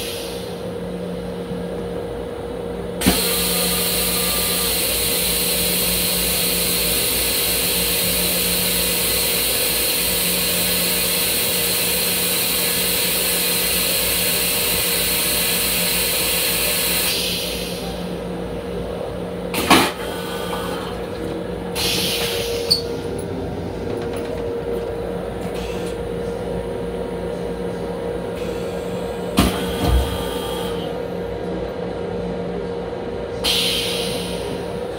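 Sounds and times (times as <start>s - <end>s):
electric railcar running hum: 0.0s - 34.9s.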